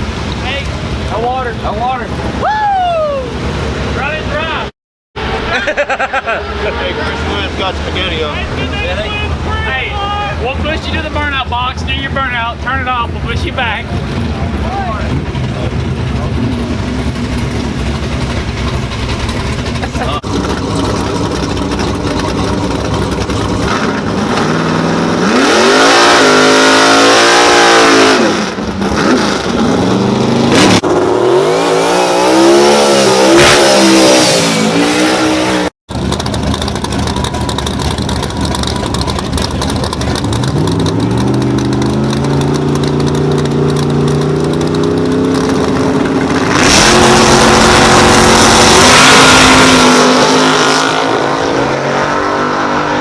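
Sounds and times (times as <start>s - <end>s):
race car engine revving: 3.4s - 53.0s
engine note climbing in pitch: 5.2s - 53.0s.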